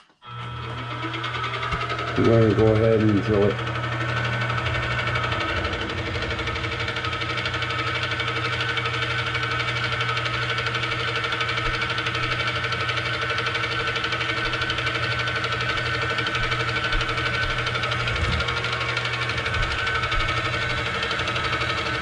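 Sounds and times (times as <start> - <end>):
milling machine spindle hum: 0.0 - 22.0
drill bit boring into metal: 0.2 - 22.0.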